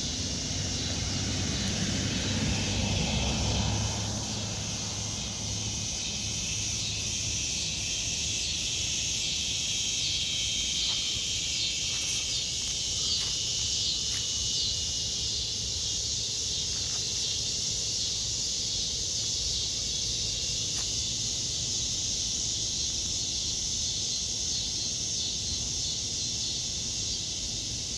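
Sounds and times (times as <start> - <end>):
cicadas singing: 0.0 - 27.9.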